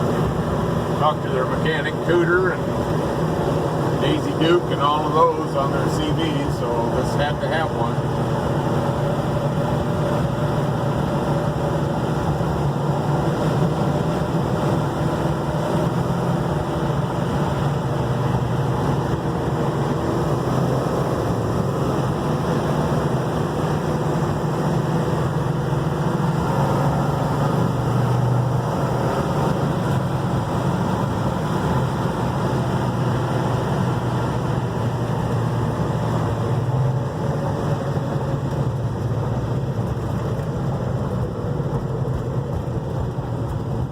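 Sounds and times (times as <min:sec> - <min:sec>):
car engine droning: 0:00.0 - 0:43.9
road and wind noise: 0:00.0 - 0:43.9.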